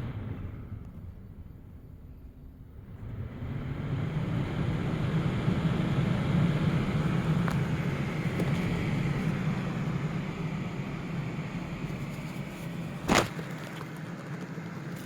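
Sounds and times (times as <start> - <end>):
electric fan running: 2.6 - 15.0.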